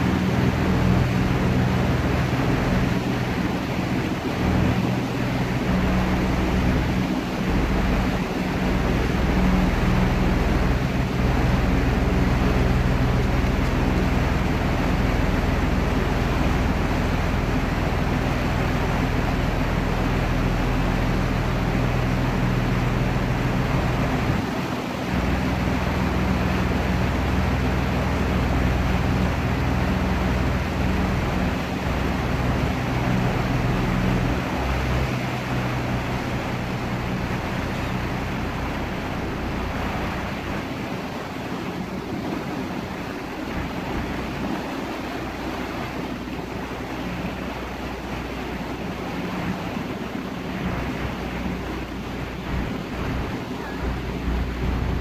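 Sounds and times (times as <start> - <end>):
boat motor humming: 0.0 - 55.0
water rushing past hull: 0.0 - 55.0.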